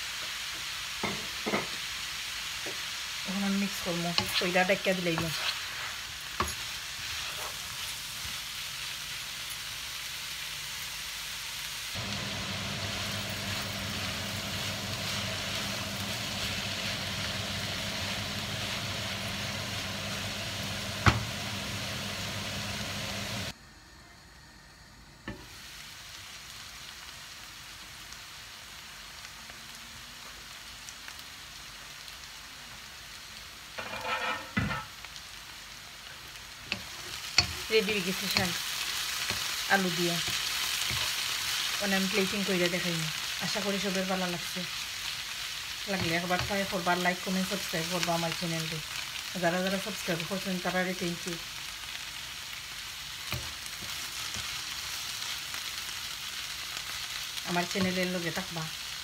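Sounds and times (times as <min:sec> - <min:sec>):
vegetables sizzling in oil: 0:00.0 - 0:23.6, 0:25.3 - 0:59.0.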